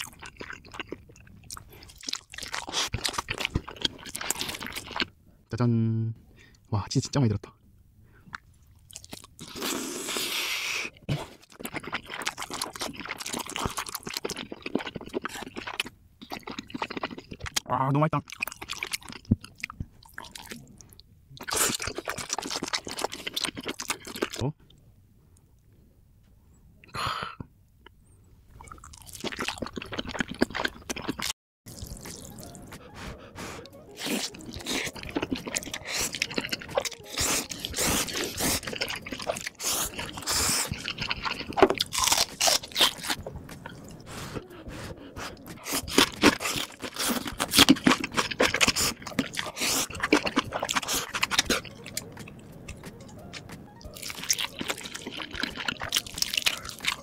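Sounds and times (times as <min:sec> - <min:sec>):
crunchy food crunching: 0:00.0 - 0:05.1, 0:08.3 - 0:17.6, 0:18.2 - 0:24.5, 0:28.6 - 0:32.8, 0:34.0 - 0:44.4, 0:45.2 - 0:57.0
wet sticky chewing: 0:00.0 - 0:05.1, 0:08.3 - 0:24.8, 0:28.5 - 0:57.0.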